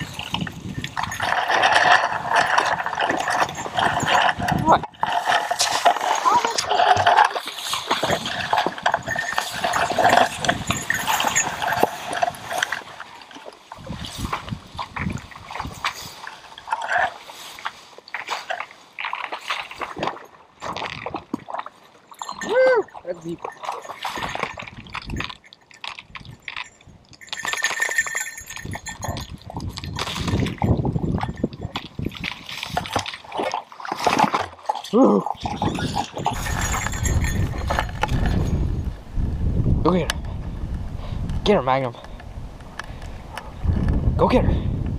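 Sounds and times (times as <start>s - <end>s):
water sloshing: 0.0s - 38.8s.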